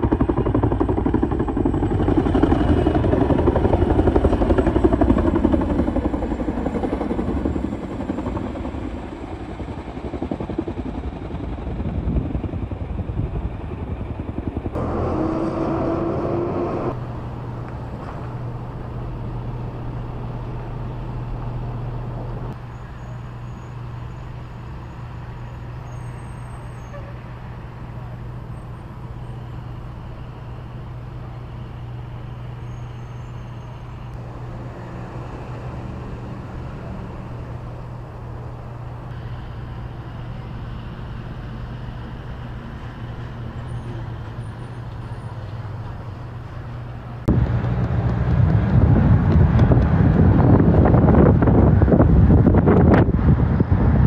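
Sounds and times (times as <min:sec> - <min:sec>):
helicopter rotor and engine: 0:00.0 - 0:54.0
low engine hum: 0:00.0 - 0:54.0.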